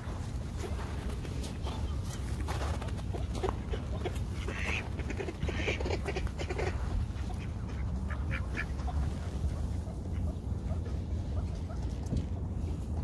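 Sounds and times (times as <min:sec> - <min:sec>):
steady low rumble: 0:00.0 - 0:13.0
ducks quacking: 0:01.5 - 0:12.1.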